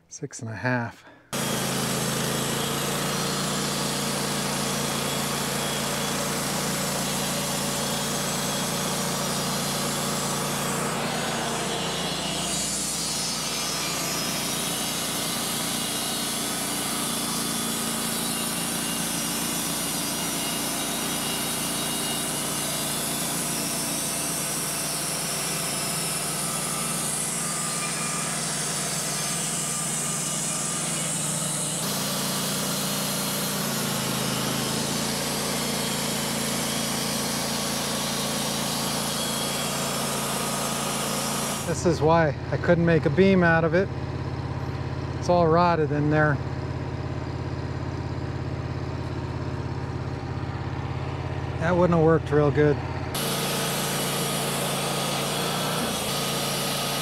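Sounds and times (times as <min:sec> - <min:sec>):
band sawmill cutting log: 0:01.3 - 0:57.0.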